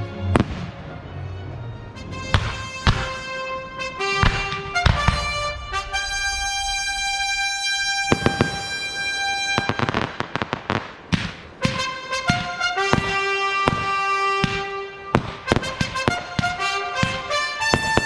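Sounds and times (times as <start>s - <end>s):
music with long held notes: 0.0s - 10.5s, 11.6s - 18.0s
fireworks bangs: 0.4s - 0.8s, 2.0s - 18.0s.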